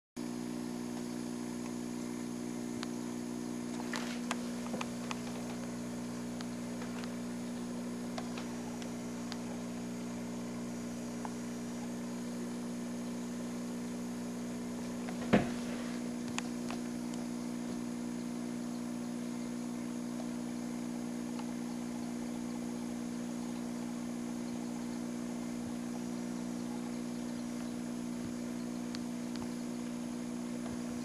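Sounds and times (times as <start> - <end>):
aquarium equipment humming: 0.2 - 31.0.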